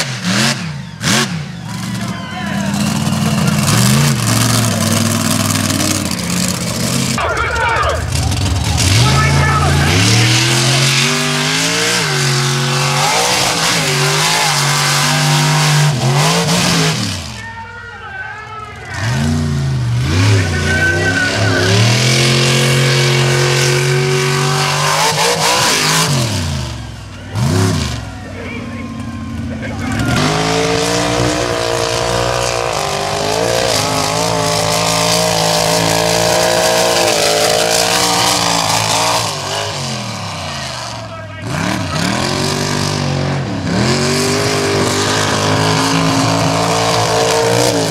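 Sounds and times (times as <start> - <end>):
truck engine revving: 0.0 - 17.6, 18.6 - 47.9.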